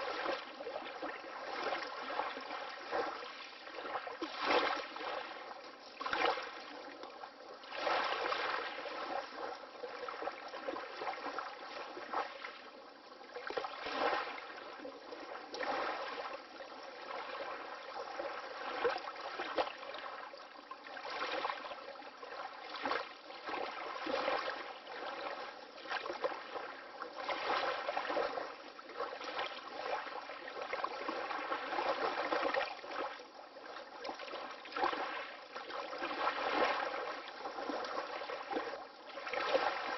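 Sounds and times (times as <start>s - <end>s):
water lapping gently: 0.0s - 39.9s.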